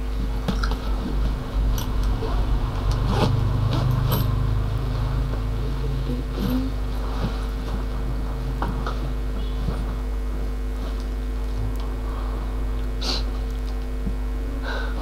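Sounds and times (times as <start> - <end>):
low engine-like rumble: 0.0 - 15.0
steady hum: 0.0 - 15.0.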